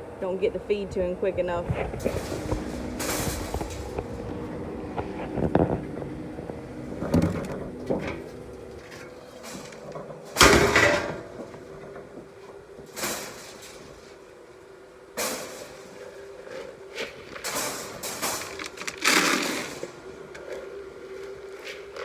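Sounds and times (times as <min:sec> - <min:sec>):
horse feed clattering and scraping: 0:01.6 - 0:14.4, 0:15.2 - 0:22.0.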